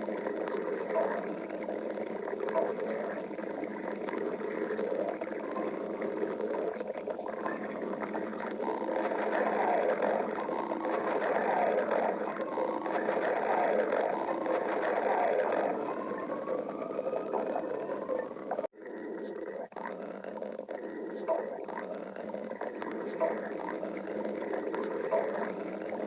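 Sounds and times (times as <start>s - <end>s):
stomach growling: 0.0s - 26.0s.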